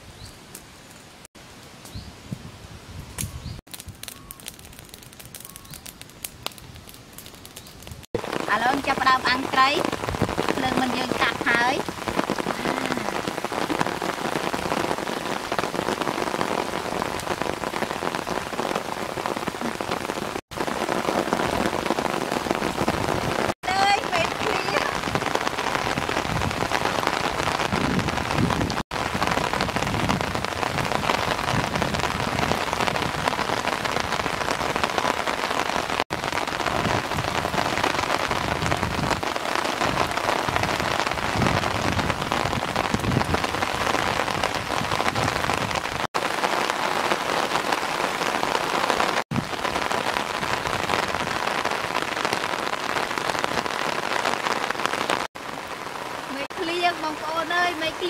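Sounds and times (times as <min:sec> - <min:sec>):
rain pattering: 0:00.4 - 0:58.0.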